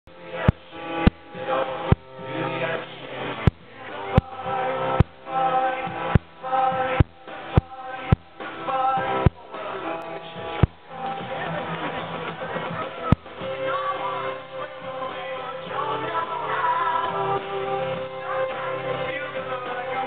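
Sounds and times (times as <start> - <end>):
acoustic guitar: 0.1 - 20.0
live band playing: 0.1 - 20.0
person singing: 0.1 - 20.0.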